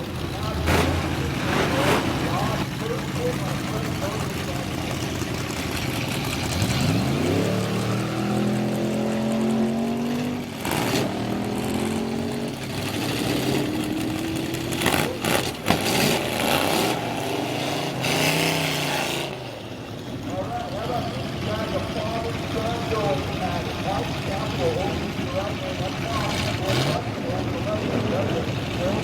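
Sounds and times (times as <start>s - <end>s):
drag car engine accelerating: 0.0s - 29.0s.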